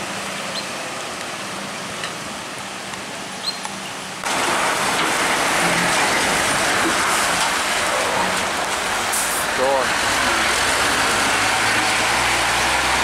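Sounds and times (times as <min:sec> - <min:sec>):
hiss of wet road and rain: 0:00.0 - 0:13.0
truck engine hum: 0:00.0 - 0:13.0.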